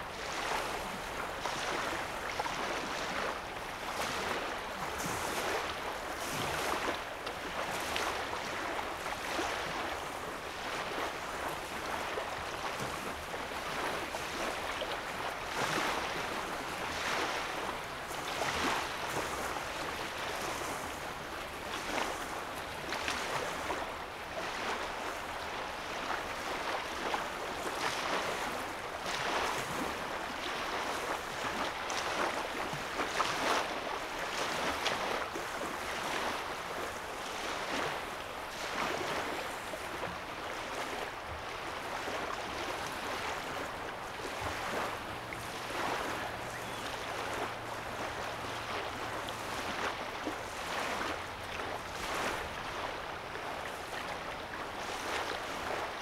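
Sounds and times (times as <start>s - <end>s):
small splashes of waves: 0.0s - 56.0s
steady wash of water: 0.0s - 56.0s.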